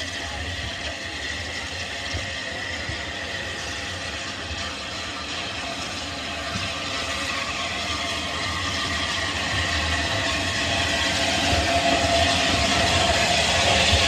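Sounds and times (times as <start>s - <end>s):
model train wheels rolling: 0.0s - 14.0s.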